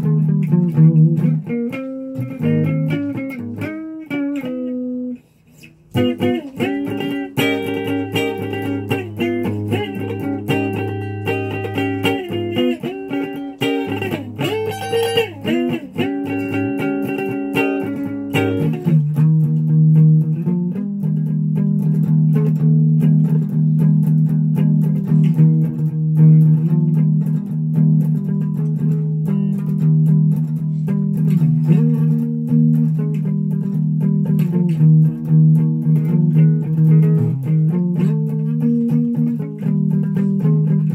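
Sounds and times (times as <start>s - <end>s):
electric guitar playing: 0.0s - 40.9s.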